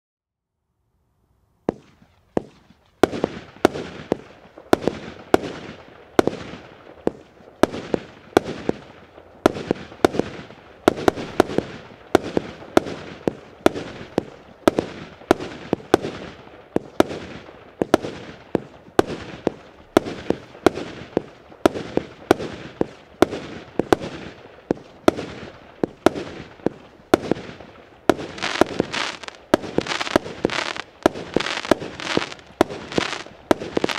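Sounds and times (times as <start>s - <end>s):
fireworks bursts hissing: 1.7s - 33.9s
fireworks sharp reports: 1.7s - 33.9s.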